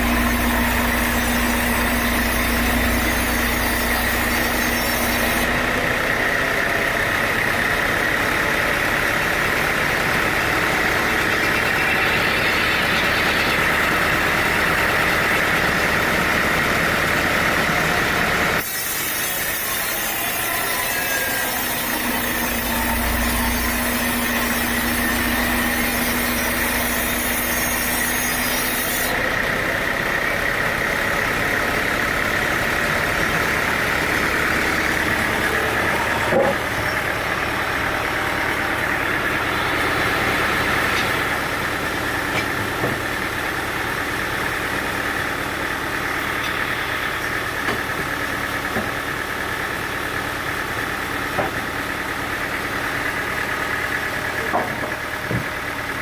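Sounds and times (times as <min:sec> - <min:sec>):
sawmill motor hum with whine: 0:00.0 - 0:56.0.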